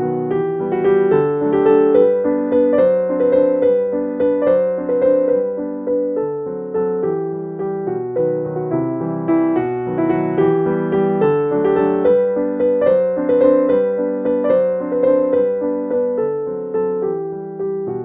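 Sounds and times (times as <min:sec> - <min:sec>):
piano-like keyboard notes: 0:00.0 - 0:18.0.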